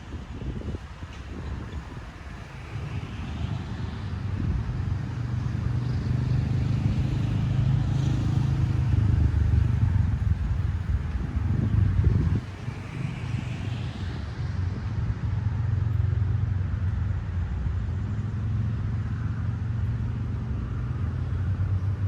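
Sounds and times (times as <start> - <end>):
vehicle engine rumbling: 0.1 - 22.0.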